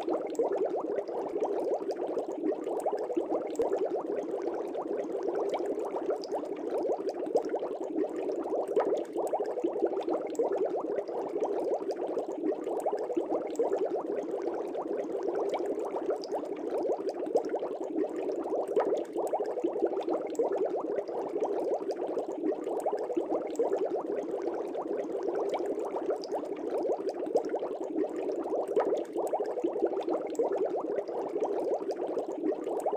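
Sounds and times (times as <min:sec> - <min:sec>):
aquarium air bubbling: 0:00.0 - 0:32.9.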